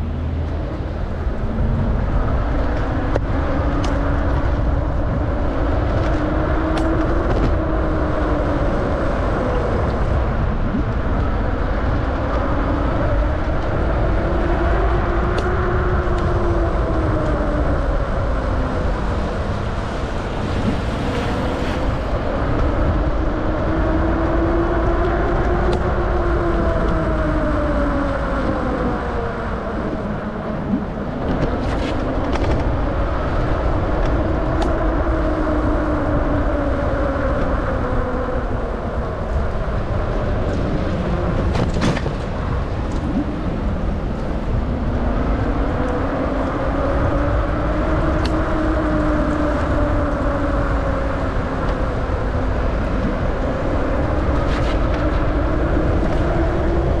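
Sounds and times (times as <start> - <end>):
road noise: 0.0 - 57.0
wind rumble on microphone: 0.0 - 57.0.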